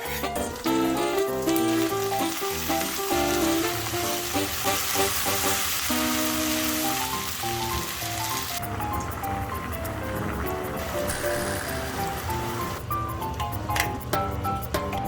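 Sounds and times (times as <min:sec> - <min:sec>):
food sizzling in a frying pan: 0:00.0 - 0:12.8
background music: 0:00.0 - 0:15.0.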